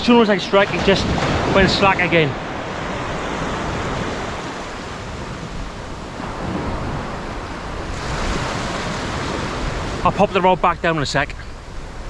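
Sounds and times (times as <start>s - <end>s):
small waves breaking on a beach: 0.0s - 12.0s
wind rumbling on the microphone: 0.0s - 12.0s.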